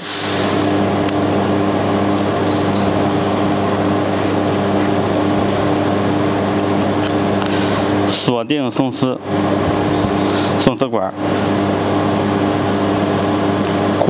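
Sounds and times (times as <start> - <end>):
welding machine humming: 0.0 - 14.0.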